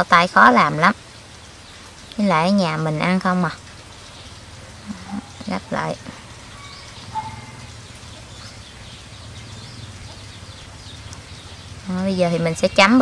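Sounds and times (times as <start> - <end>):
faint bird chirps: 1.6 - 13.0.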